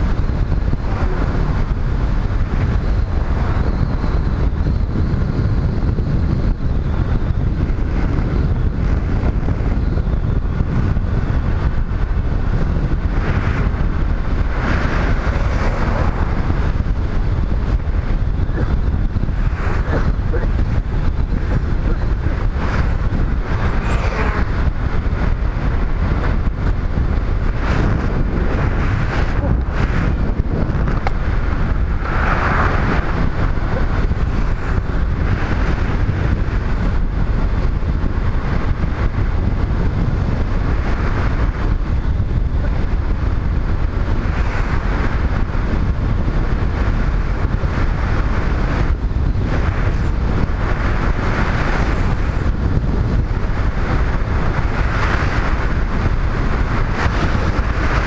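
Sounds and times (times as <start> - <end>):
motorcycle low rumble: 0.0 - 58.0
vehicles passing by: 0.0 - 58.0
wind rush over microphone: 0.0 - 58.0.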